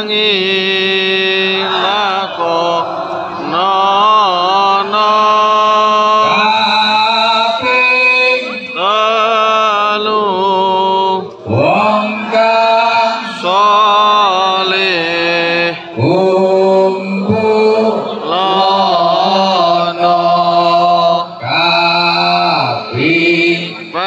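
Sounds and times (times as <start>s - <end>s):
person chanting through loudspeakers: 0.0s - 24.0s.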